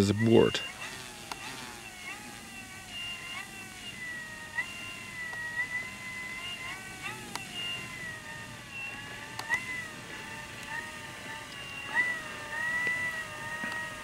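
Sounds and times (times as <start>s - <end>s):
electric motor and propeller whine: 0.0s - 14.0s
sharp clicks: 0.6s - 14.0s.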